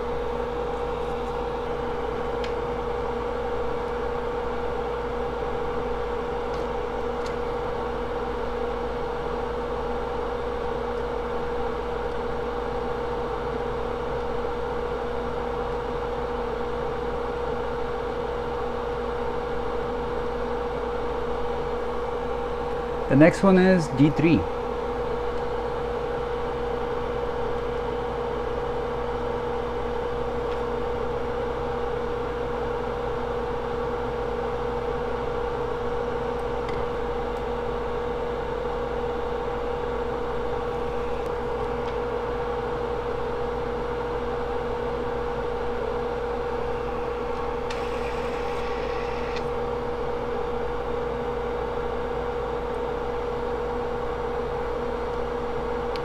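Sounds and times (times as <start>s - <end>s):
electrical hum and hiss: 0.0s - 56.0s.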